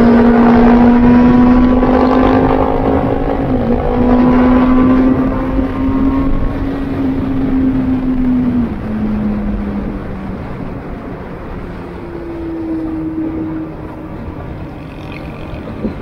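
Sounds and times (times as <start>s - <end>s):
higher engine note: 0.0s - 16.0s
vehicle engine running: 0.0s - 16.0s
wind and road noise: 0.0s - 16.0s.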